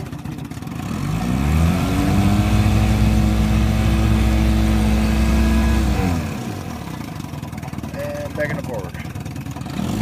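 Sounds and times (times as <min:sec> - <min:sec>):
outboard motor revving: 0:00.0 - 0:10.0.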